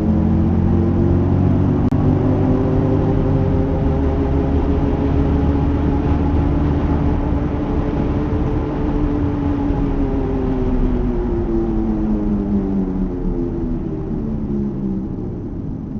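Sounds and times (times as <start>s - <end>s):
road rumble: 0.0s - 15.9s.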